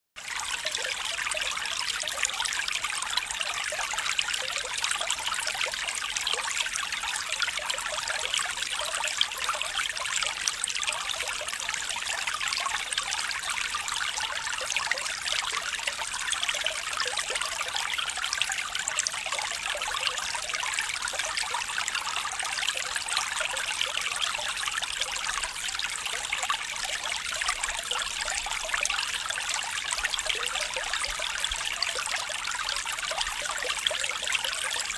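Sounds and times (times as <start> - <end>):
stream babbling over stones: 0.3 - 34.9.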